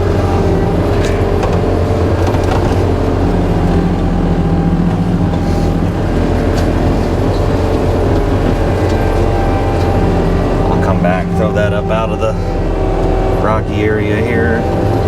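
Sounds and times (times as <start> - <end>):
diesel engine running hard: 0.0 - 15.0.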